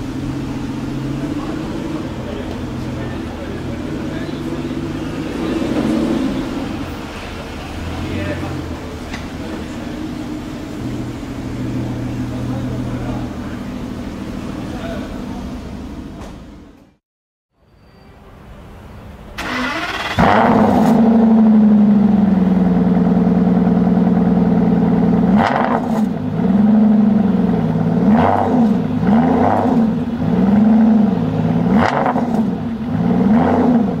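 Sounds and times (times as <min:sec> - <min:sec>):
sports car engine revving: 0:00.0 - 0:16.7, 0:19.4 - 0:34.0
car engine idling: 0:00.0 - 0:17.0, 0:19.3 - 0:34.0.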